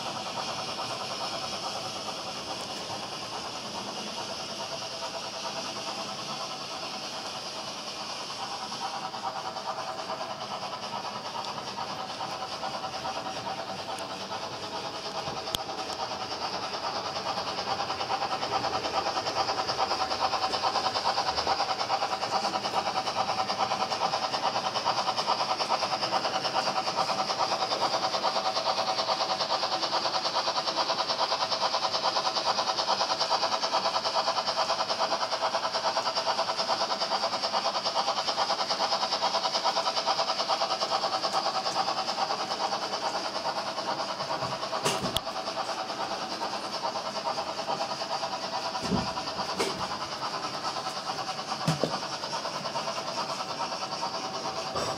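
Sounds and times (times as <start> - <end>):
model train motor whirring: 0.0 - 54.9
small wheels rattling on track: 0.0 - 54.9.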